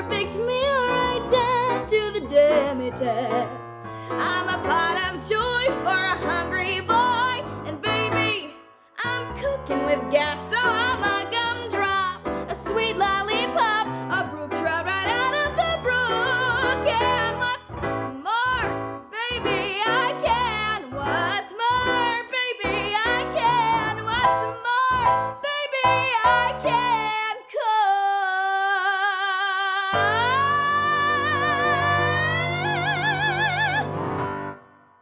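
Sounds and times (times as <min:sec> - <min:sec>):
instrumental accompaniment: 0:00.0 - 0:27.2, 0:29.9 - 0:35.0
woman singing show tune: 0:00.0 - 0:33.9.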